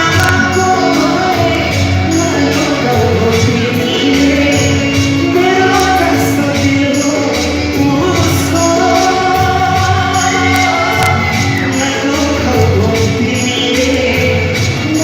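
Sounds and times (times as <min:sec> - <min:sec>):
live band music: 0:00.0 - 0:15.0
person singing long notes: 0:00.0 - 0:15.0.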